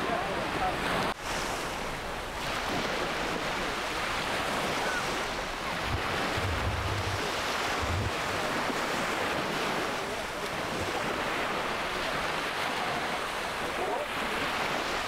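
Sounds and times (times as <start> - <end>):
surf washing onto beach: 0.0 - 15.0
wind rumbling on microphone: 0.8 - 15.0.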